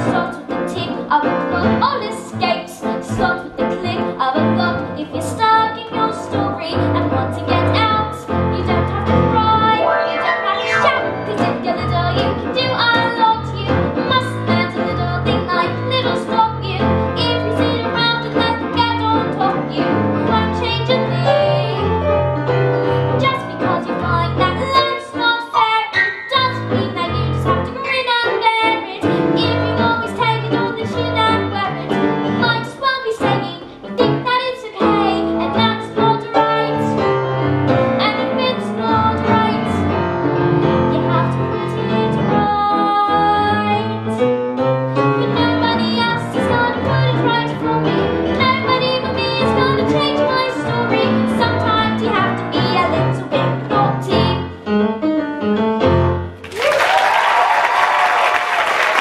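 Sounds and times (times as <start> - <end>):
girl singing: 0.0 - 21.9, 23.1 - 37.1, 38.0 - 40.0, 40.8 - 44.3, 45.0 - 54.6
grand piano accompaniment: 0.0 - 59.0.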